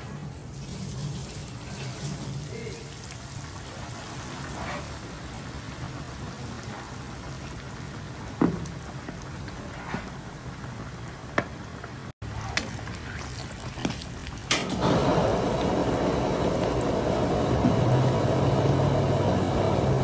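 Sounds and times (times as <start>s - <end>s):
hot oil sizzling and crackling: 0.0s - 20.0s.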